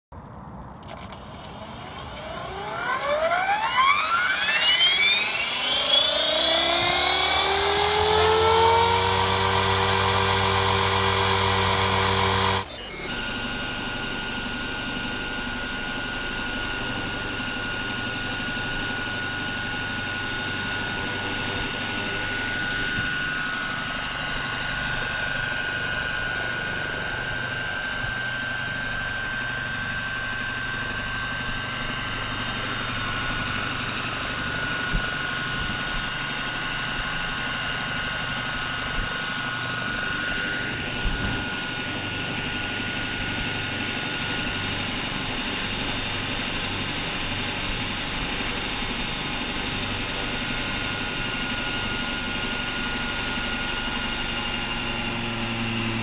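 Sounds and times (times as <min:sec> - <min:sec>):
dull hum with thin high tone: 0:00.2 - 0:56.0
rc helicopter motor whine: 0:00.5 - 0:56.0.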